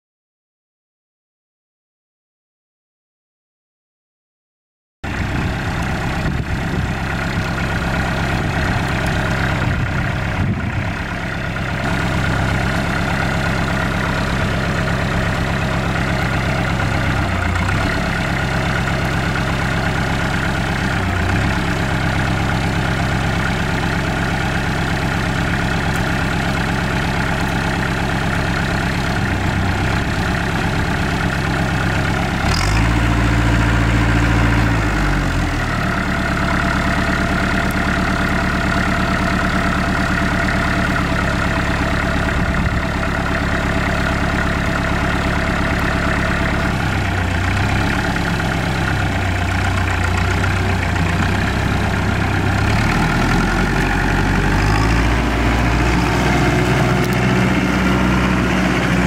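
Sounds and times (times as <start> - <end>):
tractor diesel engine running: 5.0 - 59.0.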